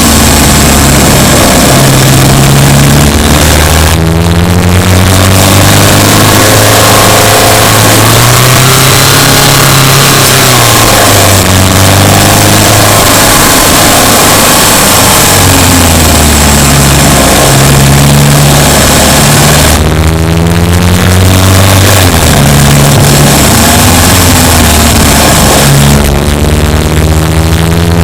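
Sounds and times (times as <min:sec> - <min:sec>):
car engine revving while driving: 0:00.0 - 0:28.0
road and wind noise: 0:00.0 - 0:28.0.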